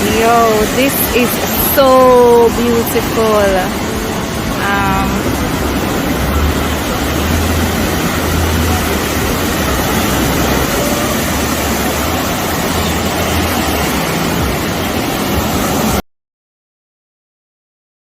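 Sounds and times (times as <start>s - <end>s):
sea surf rushing: 0.0s - 16.0s
low rumble: 0.6s - 16.0s.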